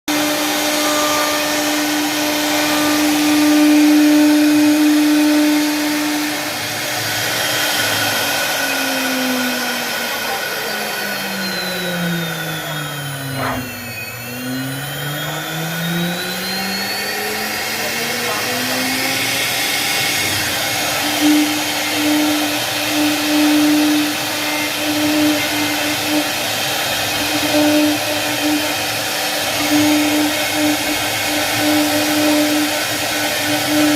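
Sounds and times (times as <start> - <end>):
cnc machine motor whine: 0.1 - 33.9.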